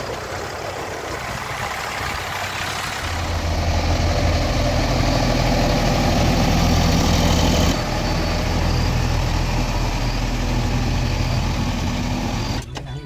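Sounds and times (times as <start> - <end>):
heavy diesel engine running: 0.0 - 12.9.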